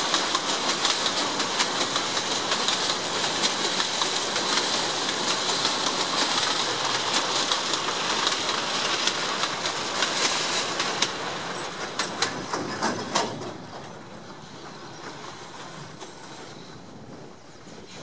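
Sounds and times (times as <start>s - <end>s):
train wheels rattling on rails: 0.0s - 18.0s.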